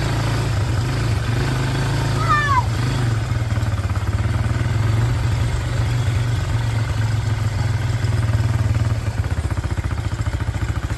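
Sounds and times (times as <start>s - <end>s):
engine running at low revs: 0.0s - 10.9s.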